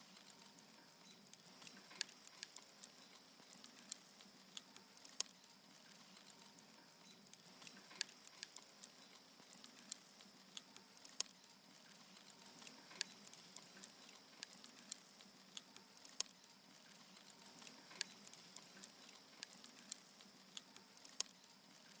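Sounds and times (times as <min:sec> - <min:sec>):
faint steady hiss: 0:00.0 - 0:22.0
wood fire crackling: 0:00.0 - 0:22.0.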